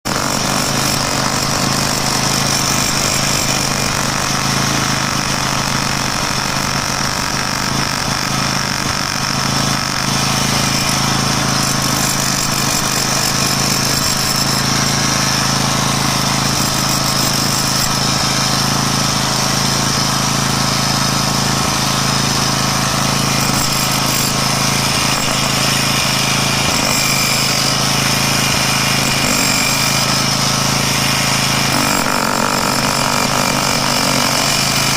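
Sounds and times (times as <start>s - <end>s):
jackhammer breaking tile joints: 0.1s - 34.9s.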